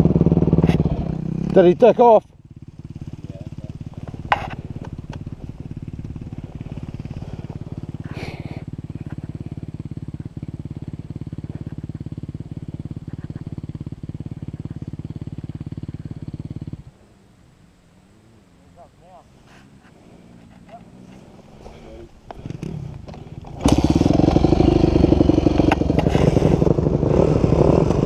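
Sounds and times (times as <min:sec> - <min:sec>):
dirt bike engine idling: 0:00.0 - 0:28.0.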